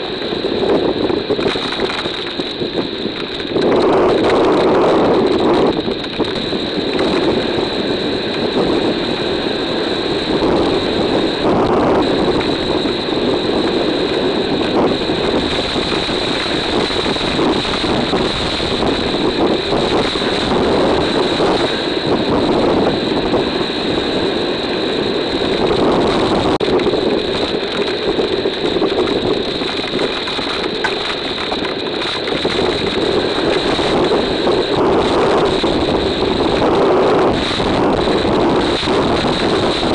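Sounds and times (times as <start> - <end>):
driving rain: 0.0 - 39.9
hurricane wind buffeting microphone: 0.0 - 39.9
steady high-pitched whine: 0.0 - 39.9.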